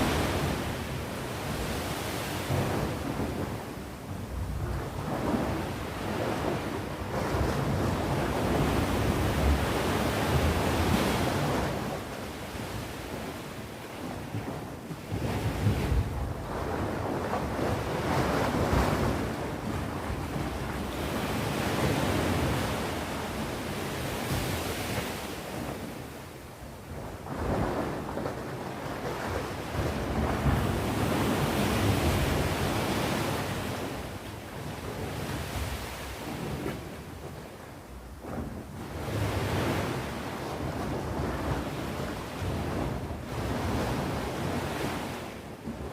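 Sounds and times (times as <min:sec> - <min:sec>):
sea waves breaking on shore: 0:00.0 - 0:45.9
wind buffeting microphone: 0:00.0 - 0:45.9.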